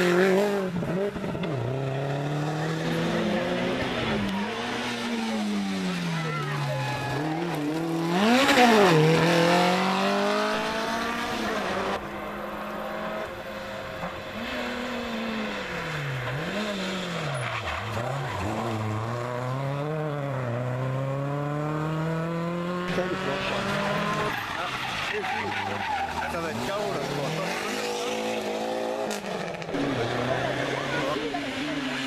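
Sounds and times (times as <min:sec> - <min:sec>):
rally car braking and changing gear: 0:00.0 - 0:32.0
rally car passing and accelerating: 0:00.0 - 0:32.0.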